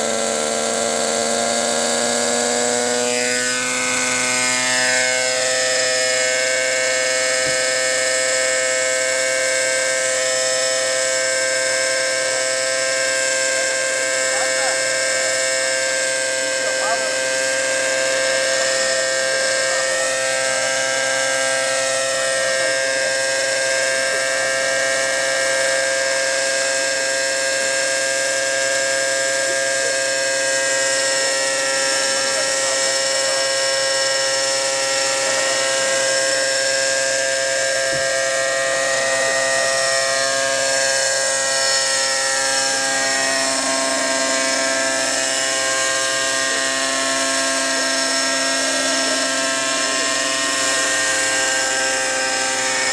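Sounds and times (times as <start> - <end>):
small engine running: 0.0 - 52.9.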